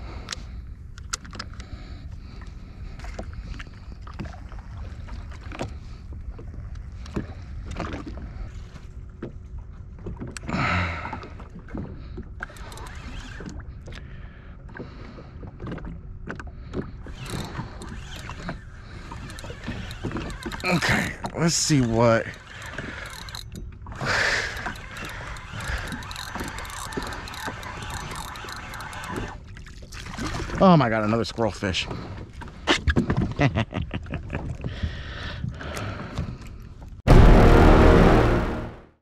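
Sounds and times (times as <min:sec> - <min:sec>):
small waves slapping hull: 0:00.2 - 0:37.0.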